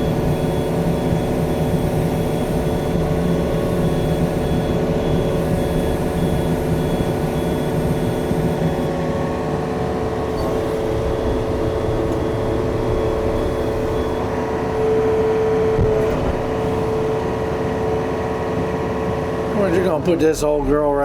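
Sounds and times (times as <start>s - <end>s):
diesel engine running: 0.0s - 21.0s
steady whine: 0.0s - 21.0s.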